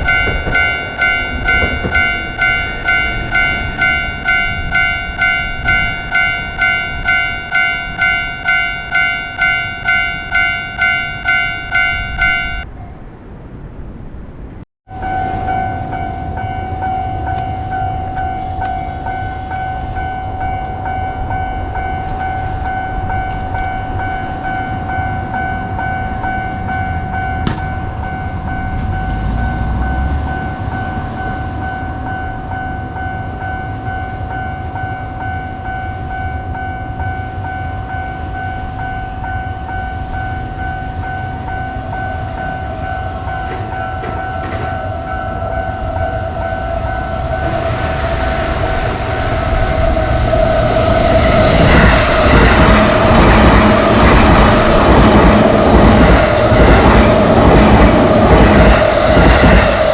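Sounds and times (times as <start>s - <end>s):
railroad crossing bell clanging: 0.0s - 12.7s, 14.9s - 59.9s
steady unbroken tone: 0.0s - 13.6s, 14.4s - 59.9s.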